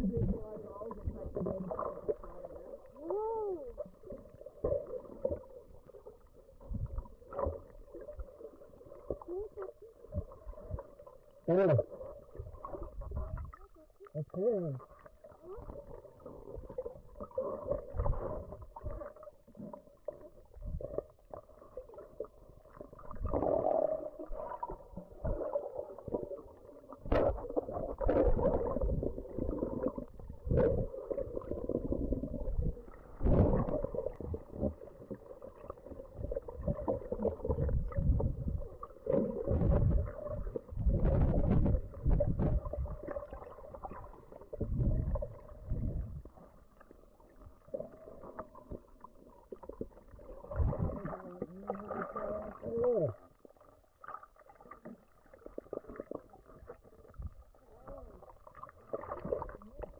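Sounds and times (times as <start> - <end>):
muffled underwater water swirling: 0.0 - 59.9.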